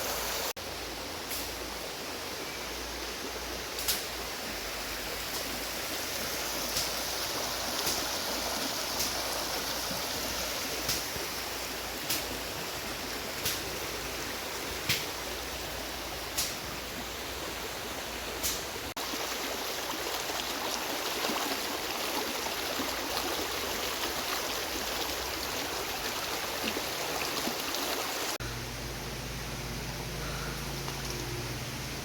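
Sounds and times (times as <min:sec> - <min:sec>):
creek water flowing: 0:00.0 - 0:28.4, 0:29.8 - 0:32.0.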